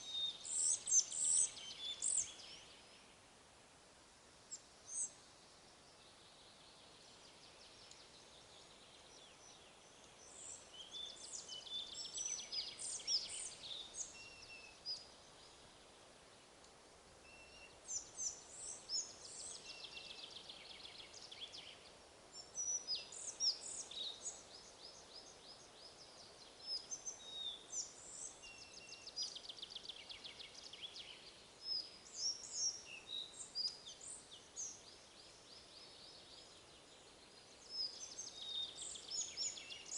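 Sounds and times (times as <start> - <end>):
songbirds chirping and trilling: 0.0 - 39.9
wind hiss: 0.1 - 39.9.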